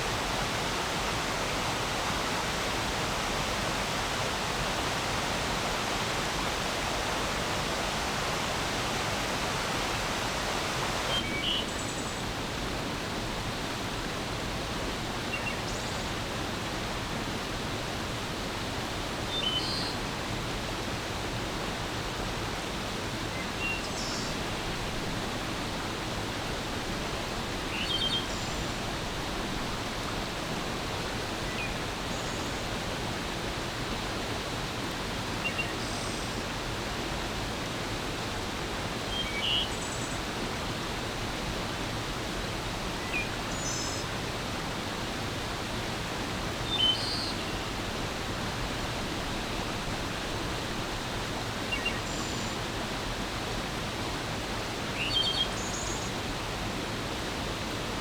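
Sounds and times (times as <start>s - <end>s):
stream flowing: 0.0s - 15.3s, 24.3s - 58.0s.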